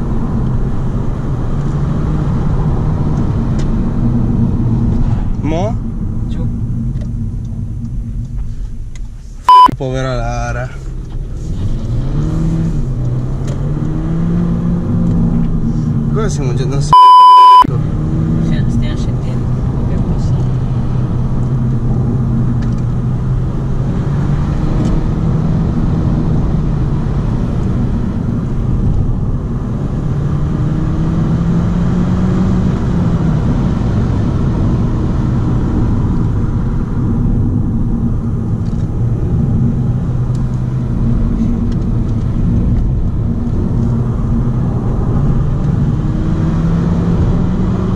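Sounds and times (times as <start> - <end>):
car engine from inside cabin: 0.0 - 47.9.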